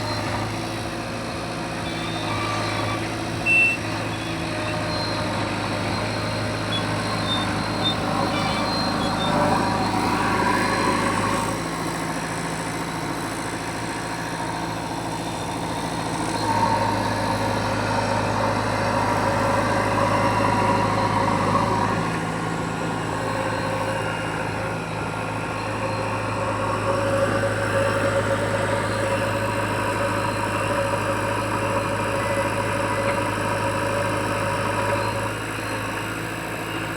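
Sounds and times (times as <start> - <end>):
heavy diesel engine running: 0.0 - 36.9.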